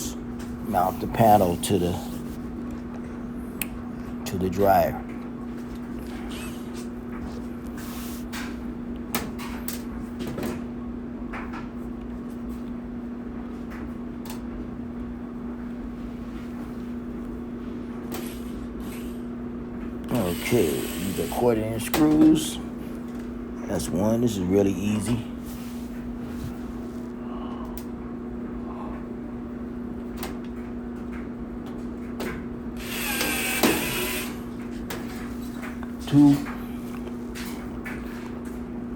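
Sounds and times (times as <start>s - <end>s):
steady low hum: 0.0s - 10.2s, 14.2s - 38.9s.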